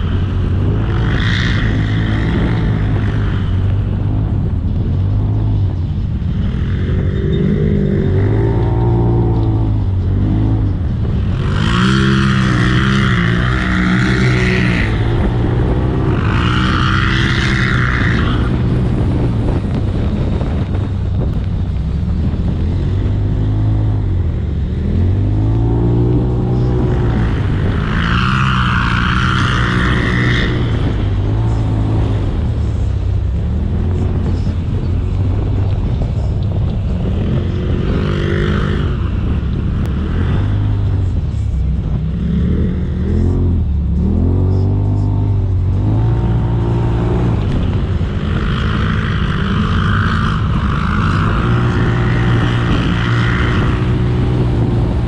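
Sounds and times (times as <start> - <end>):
engine revving: 0.0 - 21.4, 22.0 - 55.0.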